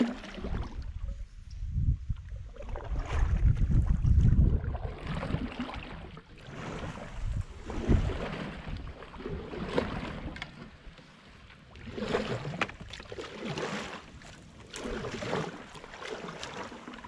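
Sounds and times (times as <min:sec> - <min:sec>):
paddle splashing in water: 0:00.0 - 0:01.4, 0:02.1 - 0:17.0.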